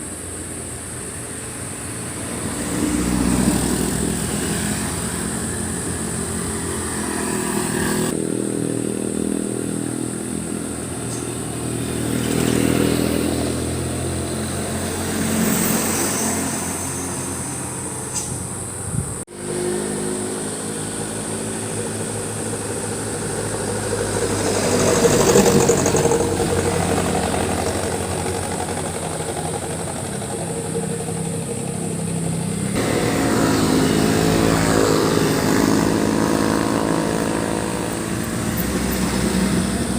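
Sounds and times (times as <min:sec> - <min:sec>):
engines revving: 0:00.0 - 0:39.9
motorcycles and cars passing: 0:00.0 - 0:39.9.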